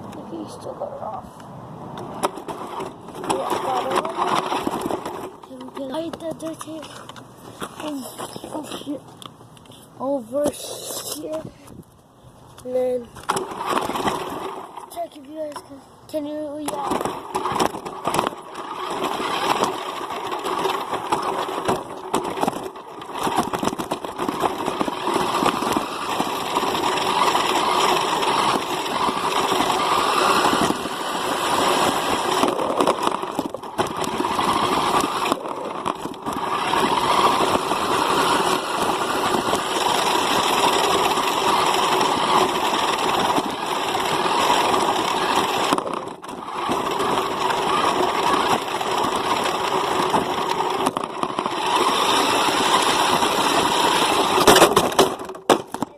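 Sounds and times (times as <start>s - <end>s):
vehicle engine running: 2.0s - 10.4s, 12.7s - 55.5s.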